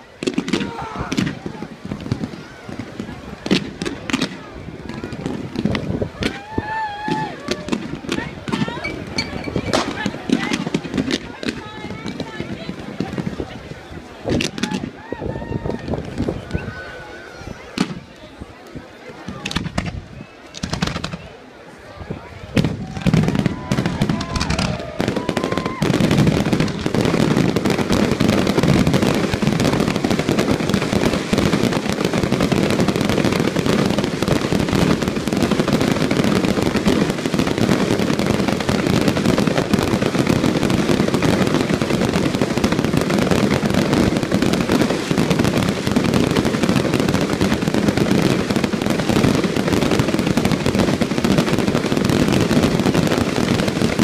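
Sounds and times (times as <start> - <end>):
whistling fireworks: 0.0 - 18.2, 19.2 - 21.4, 22.5 - 54.0
fireworks bangs and crackles: 0.0 - 54.0.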